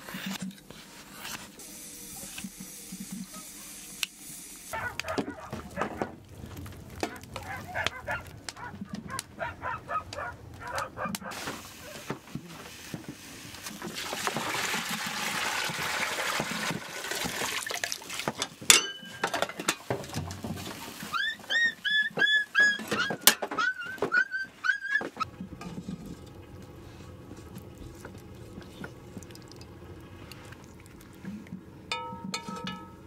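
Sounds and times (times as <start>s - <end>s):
pot boiling: 0.0s - 9.3s, 10.6s - 22.6s, 25.2s - 33.0s.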